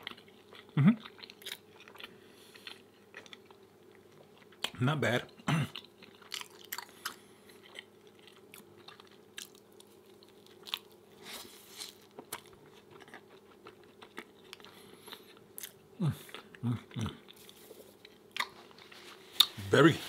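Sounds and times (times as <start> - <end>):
chewing with wet mouth clicks: 0.0 - 4.8, 5.7 - 11.0, 12.1 - 18.6.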